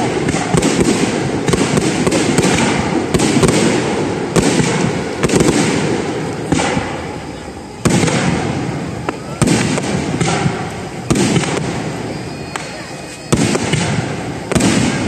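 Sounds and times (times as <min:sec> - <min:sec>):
fireworks bangs: 0:00.0 - 0:15.0
fireworks rumble and crackle: 0:00.0 - 0:15.0.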